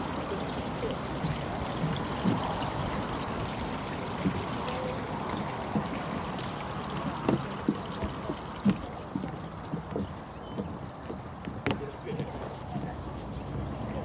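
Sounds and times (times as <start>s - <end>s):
water trickling from fountain: 0.0s - 14.0s.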